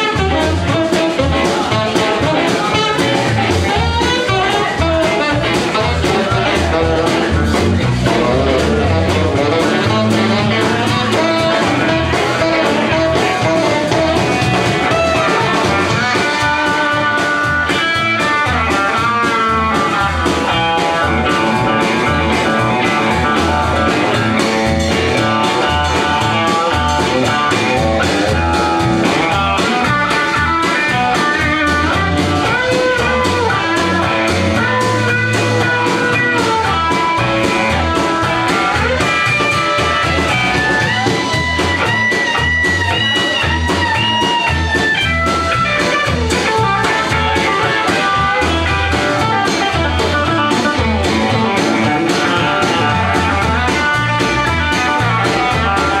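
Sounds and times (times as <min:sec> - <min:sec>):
drum kit beat: 0:00.0 - 0:56.0
electric bass: 0:00.0 - 0:56.0
electric guitars: 0:00.0 - 0:56.0.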